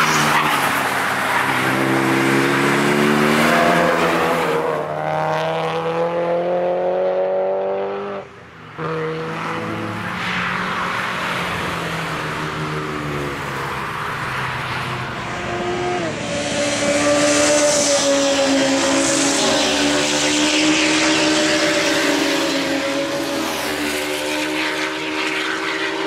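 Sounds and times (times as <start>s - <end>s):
race cars passing at high revs: 0.0s - 26.0s.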